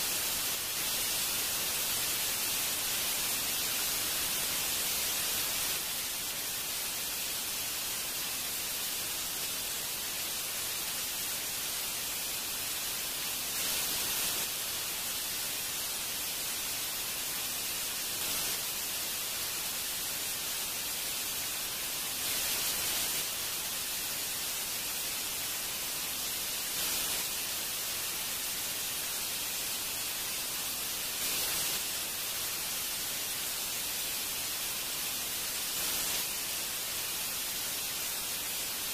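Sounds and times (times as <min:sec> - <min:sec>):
static-like hiss: 0:00.0 - 0:38.9.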